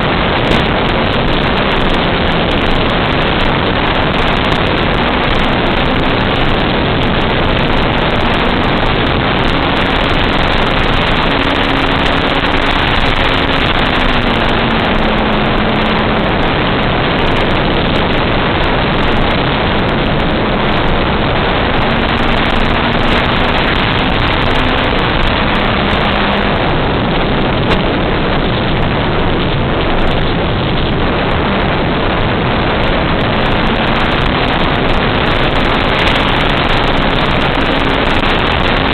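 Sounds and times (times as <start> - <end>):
faint low hum shifting pitch: 0.0 - 38.9
propeller and wind rush: 0.0 - 38.9.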